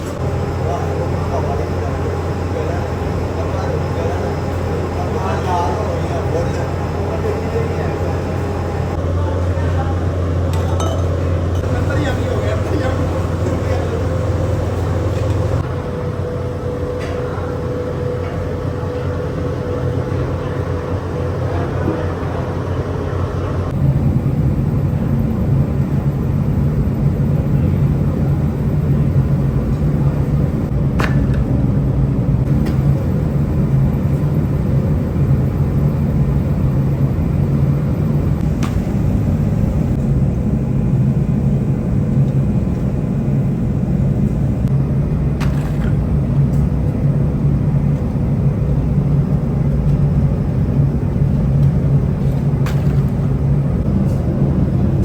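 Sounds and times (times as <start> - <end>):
heavy factory machinery rumbling: 0.0 - 55.0.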